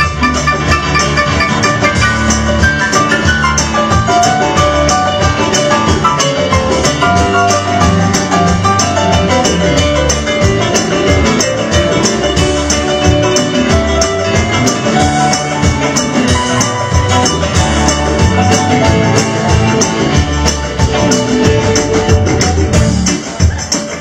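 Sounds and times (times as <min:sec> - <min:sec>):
instrumental band music: 0:00.0 - 0:24.0.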